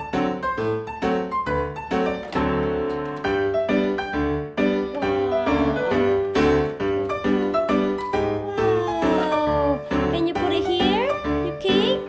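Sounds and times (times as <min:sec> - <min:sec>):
bouncy piano tune with beat: 0:00.0 - 0:12.0.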